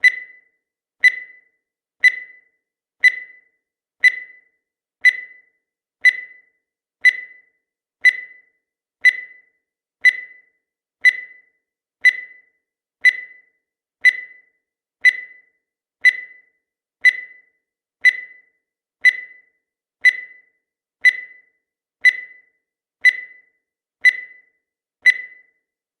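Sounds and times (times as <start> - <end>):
high-pitched timer ticks: 0.0 - 25.7.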